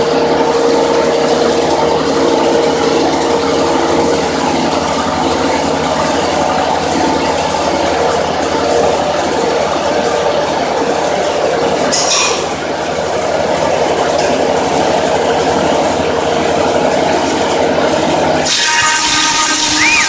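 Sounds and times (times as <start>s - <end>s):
machine cutter milling a log: 0.0s - 20.0s.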